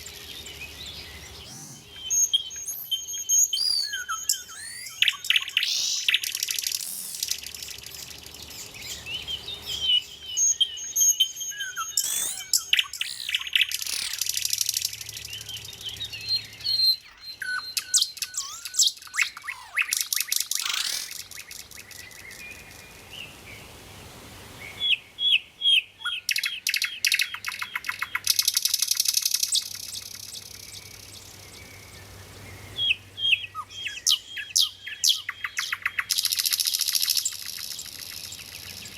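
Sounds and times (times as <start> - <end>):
nightingale singing: 0.0 - 23.4, 24.7 - 32.0, 32.7 - 38.9.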